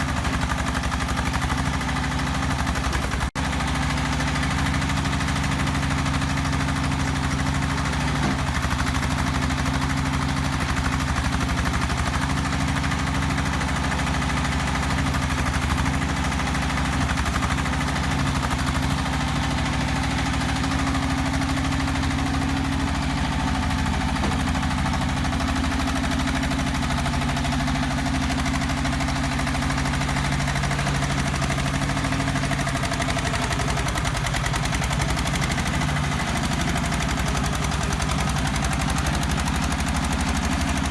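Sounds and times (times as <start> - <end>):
concrete mixer engine running: 0.0 - 40.9.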